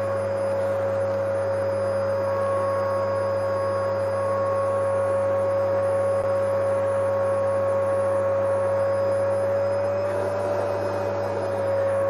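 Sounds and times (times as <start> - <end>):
vacuum cleaner motor running: 0.0 - 12.0.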